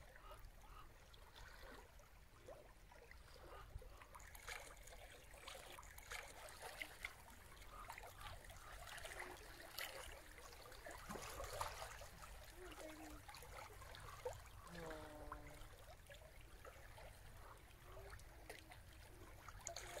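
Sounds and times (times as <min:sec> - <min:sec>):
water lapping and trickling: 0:00.0 - 0:20.0.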